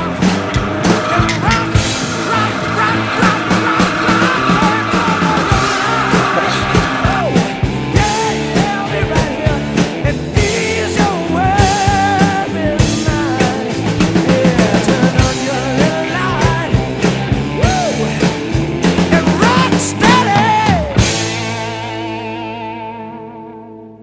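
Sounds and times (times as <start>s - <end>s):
rock music with drums: 0.0s - 24.0s.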